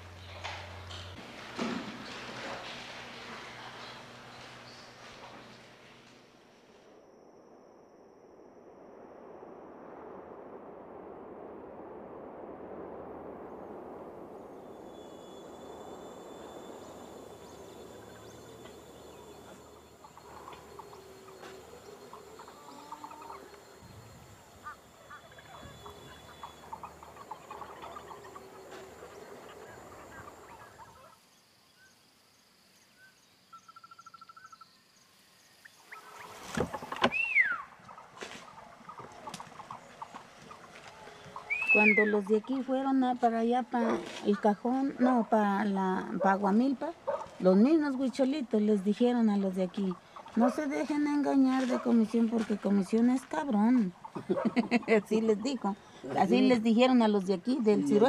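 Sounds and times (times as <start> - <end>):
insects buzzing: 0.0 - 10.0, 13.4 - 58.0.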